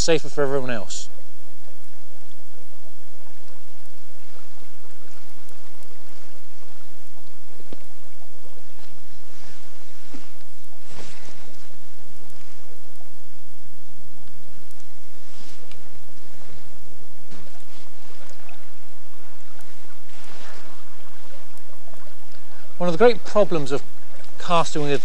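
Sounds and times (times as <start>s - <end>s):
low hum: 0.0s - 25.0s
river water running: 0.2s - 25.0s.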